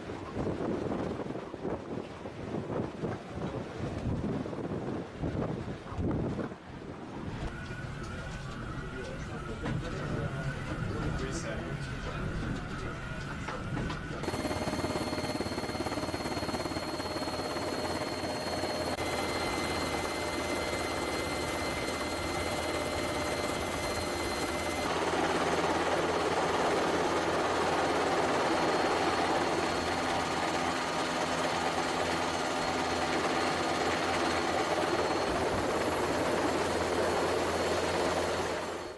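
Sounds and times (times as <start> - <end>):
helicopter rotor and turbine drone: 4.1 - 38.9
constant whines: 5.4 - 38.9.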